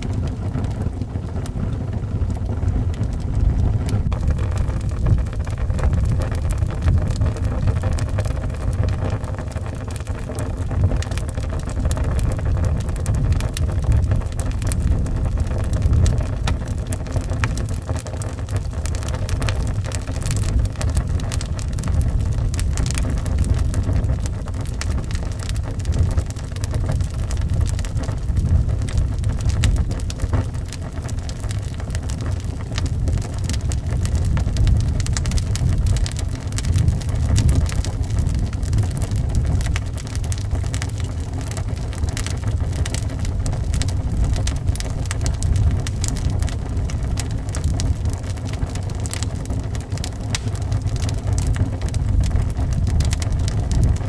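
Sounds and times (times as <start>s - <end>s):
howling wind: 0.0s - 54.0s
wood fire crackling: 0.0s - 54.0s.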